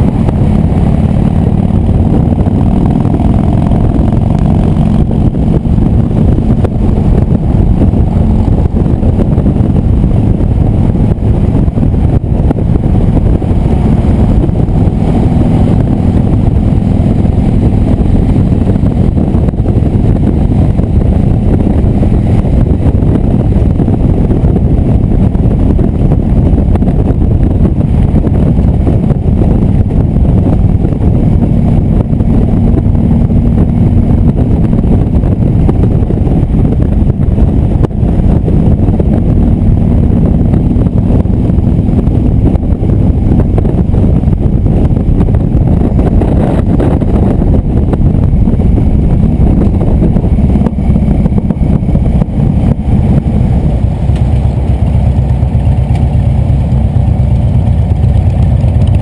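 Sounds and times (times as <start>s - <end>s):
loud wind rush: 0.0s - 59.0s
motorcycle engine: 0.0s - 59.0s.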